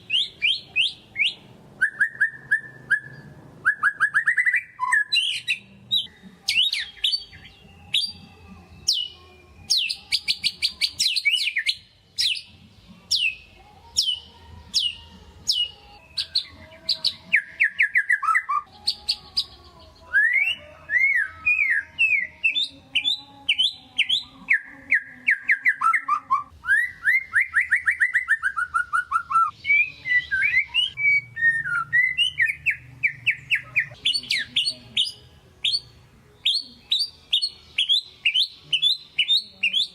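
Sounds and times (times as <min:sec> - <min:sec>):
songbird singing fast trills: 0:00.1 - 0:39.9.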